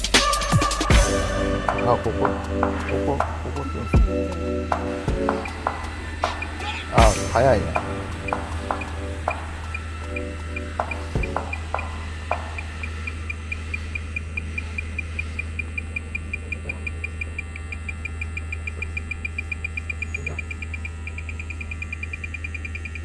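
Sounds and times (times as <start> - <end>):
steady low hum: 0.9 - 23.0
leak detector beeping: 2.6 - 23.0.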